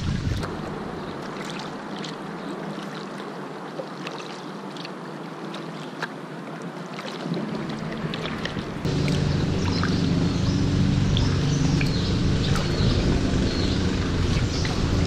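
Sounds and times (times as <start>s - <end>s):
kayak paddle dipping into water: 0.0s - 15.0s
water drips and splashes: 0.0s - 15.0s.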